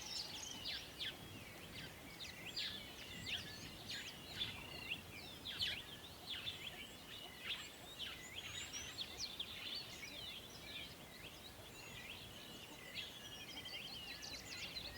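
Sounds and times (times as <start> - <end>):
faint outdoor hiss: 0.0 - 14.9
small birds chirping: 0.0 - 14.9.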